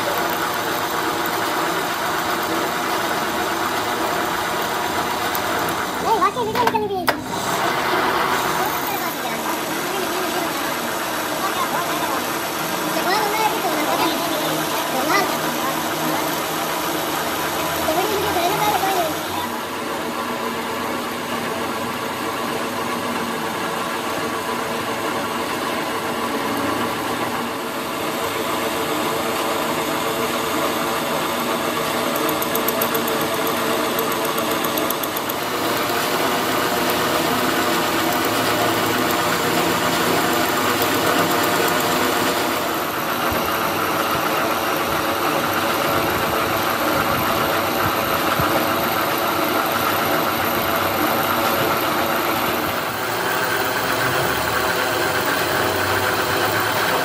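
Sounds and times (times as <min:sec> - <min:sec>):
metal lathe running: 0:00.0 - 0:57.0.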